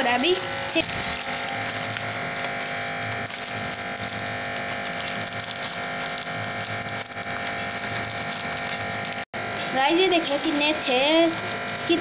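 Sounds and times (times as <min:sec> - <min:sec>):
electrical machine hum and whine: 0:00.0 - 0:12.0
plastic packet crinkling: 0:00.0 - 0:12.0.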